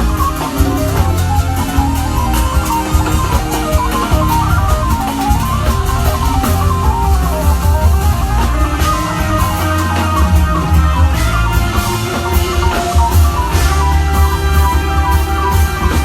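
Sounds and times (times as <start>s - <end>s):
busy drums: 0.0s - 16.0s
fast melodic line: 0.0s - 16.0s
heavy bass line: 0.0s - 16.0s.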